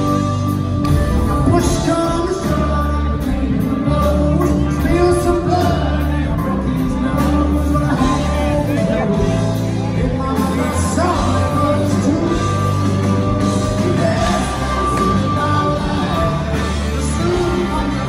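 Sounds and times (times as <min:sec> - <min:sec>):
bass guitar: 0:00.0 - 0:18.0
drums: 0:00.0 - 0:18.0
electric guitars: 0:00.0 - 0:18.0
man singing: 0:00.0 - 0:18.0.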